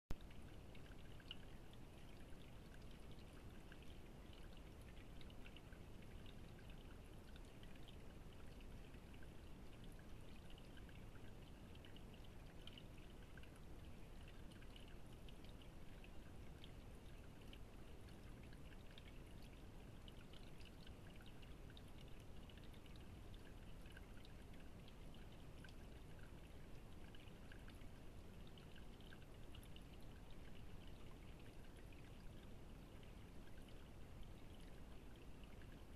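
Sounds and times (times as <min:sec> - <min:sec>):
water feature trickling: 0:00.1 - 0:35.9.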